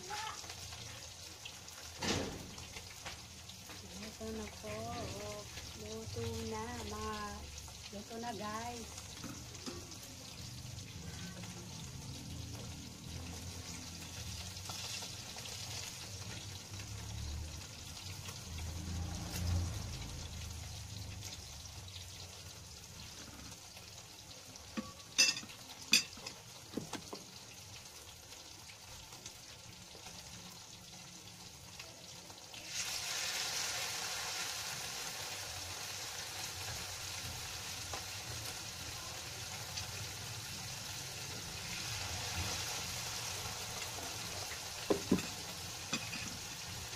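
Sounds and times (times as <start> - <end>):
oil sizzling in a frying pan: 0.0 - 46.9.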